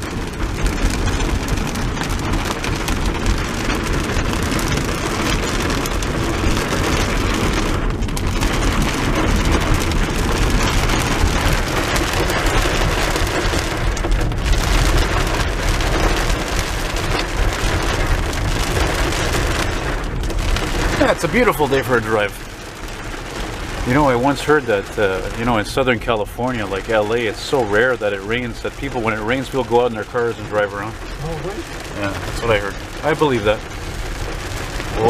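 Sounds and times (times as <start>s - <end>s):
heavy rain drumming on car roof: 0.0s - 35.0s.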